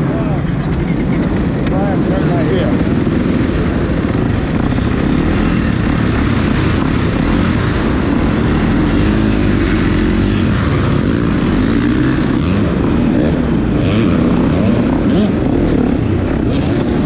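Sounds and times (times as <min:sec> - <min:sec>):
dirt bike engines revving: 0:00.0 - 0:17.0
loud steady rushing noise: 0:00.0 - 0:17.0.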